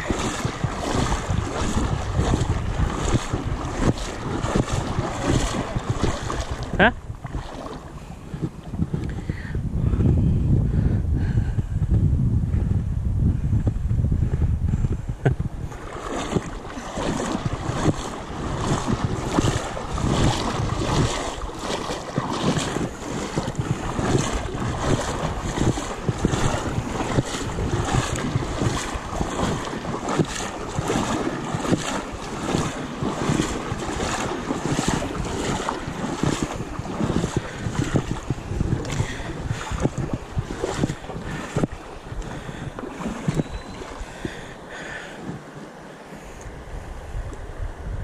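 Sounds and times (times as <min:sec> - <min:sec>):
river water splashing: 0:00.0 - 0:09.2, 0:15.6 - 0:47.6
wind buffeting microphone: 0:00.0 - 0:45.6, 0:46.4 - 0:48.0.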